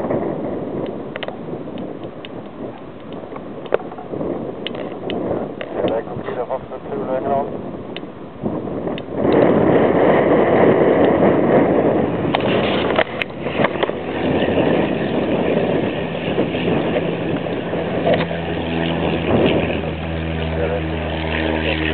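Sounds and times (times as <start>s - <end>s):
light aircraft engine and propeller: 0.0s - 21.9s.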